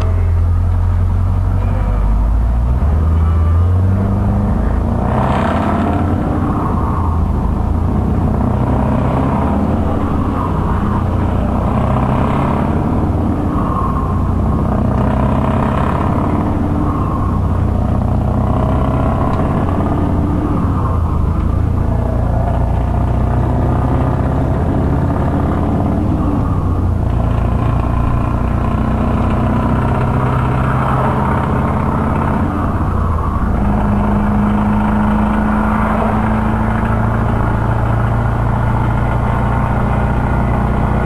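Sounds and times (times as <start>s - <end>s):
truck engine rumbling: 0.0s - 41.0s.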